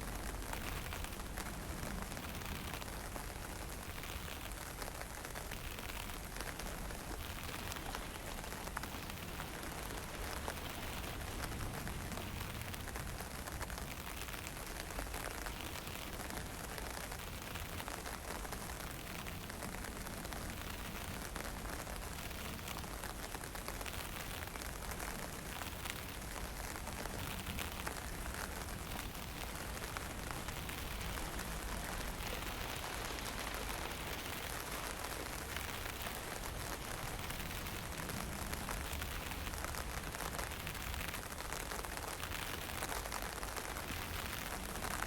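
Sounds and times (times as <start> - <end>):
light rain hissing: 0.0 - 45.0
wind: 0.0 - 45.0.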